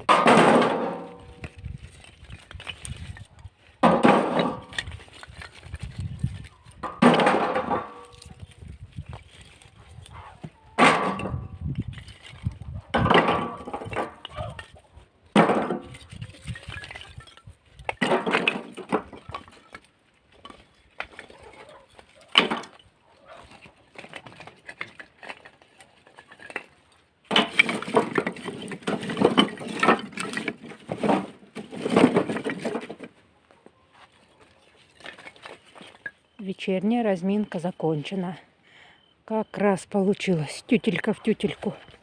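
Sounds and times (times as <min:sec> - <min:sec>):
firewood knocking and clattering: 0:00.0 - 0:36.4.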